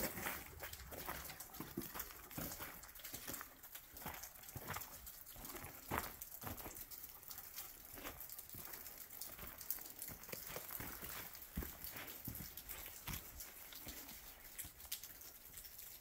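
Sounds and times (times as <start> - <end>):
footsteps on shale and leaves: 0.0 - 6.8, 7.9 - 14.8.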